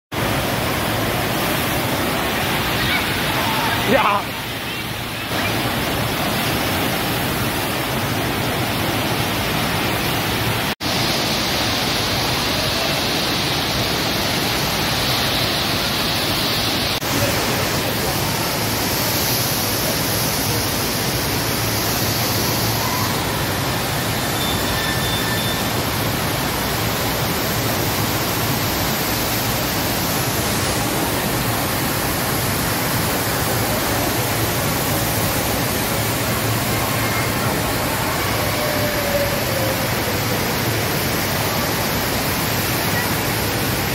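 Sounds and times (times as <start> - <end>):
rushing water: 0.1 - 43.9.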